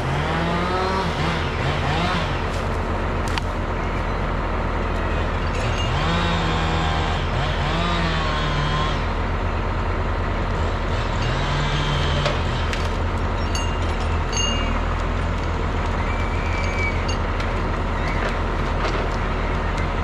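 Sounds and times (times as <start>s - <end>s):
diesel machines running: 0.0s - 20.0s.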